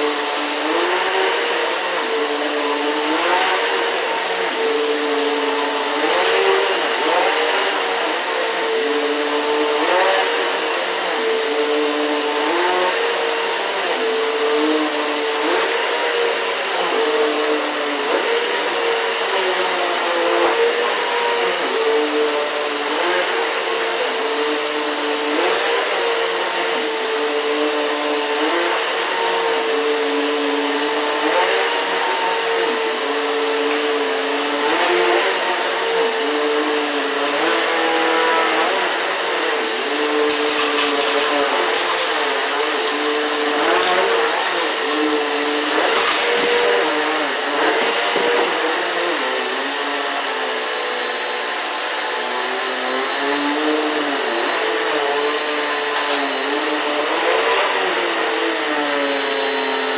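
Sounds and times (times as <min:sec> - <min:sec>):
upright vacuum cleaner whining: 0:00.0 - 0:59.9.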